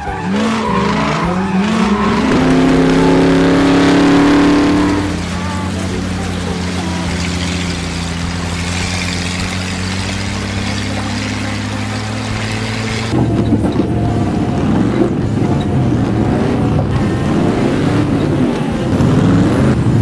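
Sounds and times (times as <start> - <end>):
vehicle engine running: 0.0 - 20.0
water rushing and splashing: 0.0 - 20.0.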